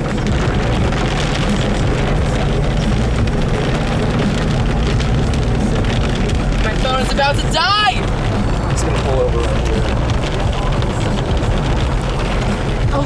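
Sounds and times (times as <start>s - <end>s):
rain hitting a car: 0.0s - 13.0s
road and engine noise: 0.0s - 13.0s.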